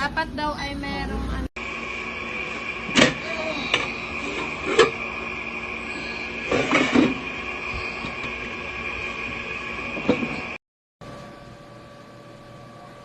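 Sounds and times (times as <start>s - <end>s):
air fryer fan whirring: 0.0s - 13.0s.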